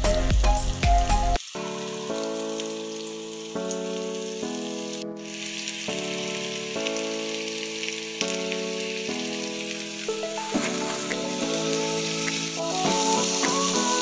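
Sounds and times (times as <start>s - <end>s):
background music of held chords: 0.0s - 14.0s
food sizzling in oil: 1.2s - 14.0s.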